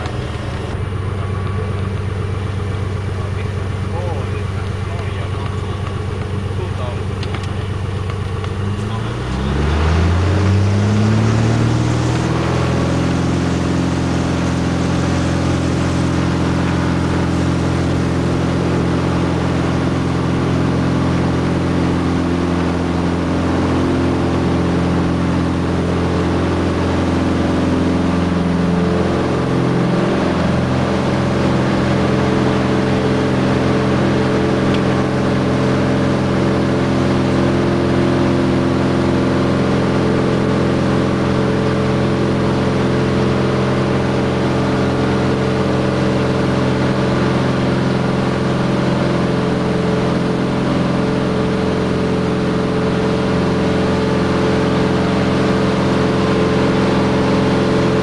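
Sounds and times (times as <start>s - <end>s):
propeller aircraft engine in cabin: 0.0s - 58.0s.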